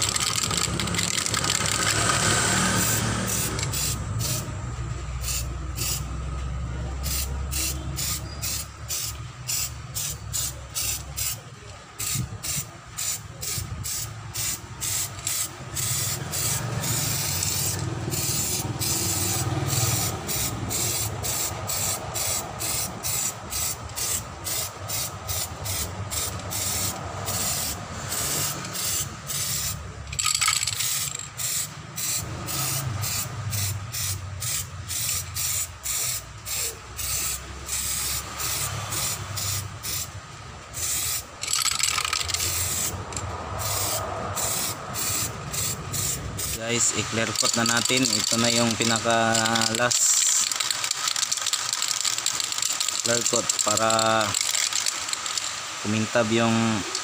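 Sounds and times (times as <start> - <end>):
spray can hissing: 0.0 - 4.5, 5.1 - 6.2, 7.0 - 57.0.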